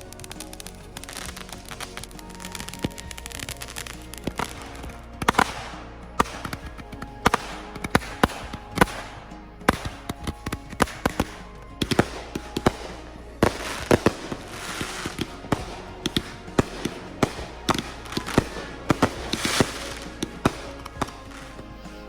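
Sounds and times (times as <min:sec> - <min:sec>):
fireworks crackling: 0:00.0 - 0:22.0
fireworks popping and banging: 0:00.0 - 0:22.0.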